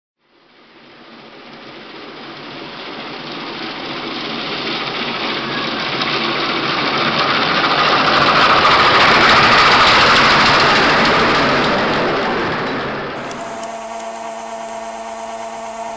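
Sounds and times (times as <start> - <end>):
steady rushing machine noise: 1.2 - 15.9.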